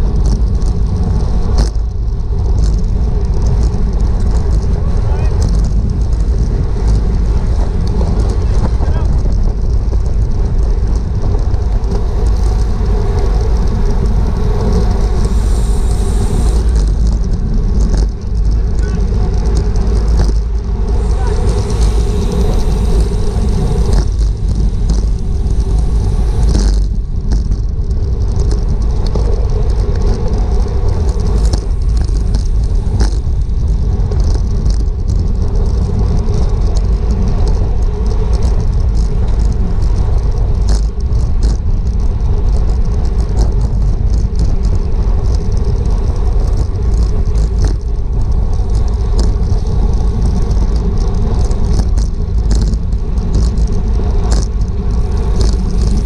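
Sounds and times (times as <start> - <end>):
bike clicks and rattles: 0.0 - 56.0
wind buffeting microphone: 0.0 - 56.0.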